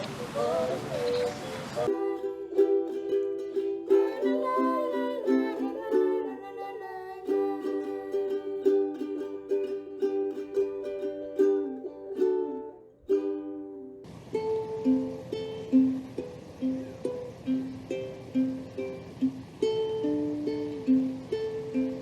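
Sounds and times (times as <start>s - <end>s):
plucked string melody: 0.7s - 22.0s.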